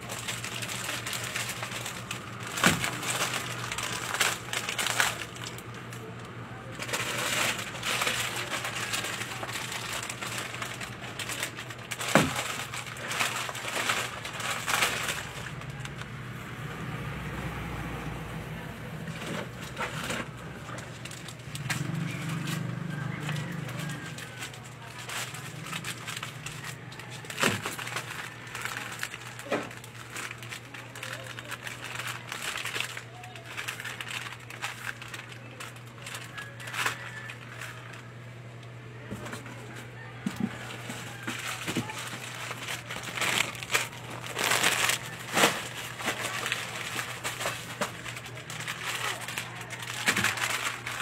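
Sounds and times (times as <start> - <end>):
plastic snack packets crinkling: 0.0 - 16.4, 19.0 - 51.0.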